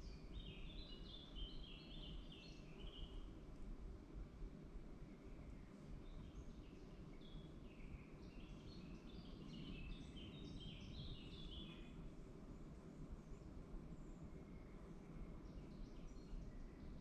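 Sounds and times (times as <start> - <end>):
songbird singing: 0.0 - 3.3, 5.1 - 12.1, 12.9 - 17.0.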